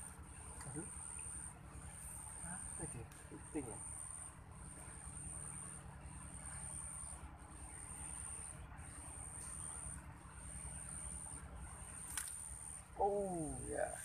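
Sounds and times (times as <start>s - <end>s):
insect trilling: 0.0s - 14.0s.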